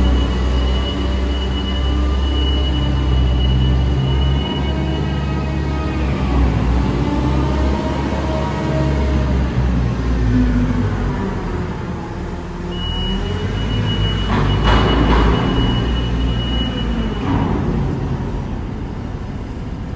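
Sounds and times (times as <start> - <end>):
diesel engines working under load: 0.0 - 19.9.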